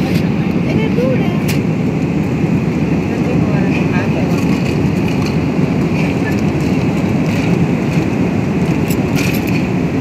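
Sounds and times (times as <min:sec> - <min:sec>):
airliner cabin engine rush: 0:00.0 - 0:10.0.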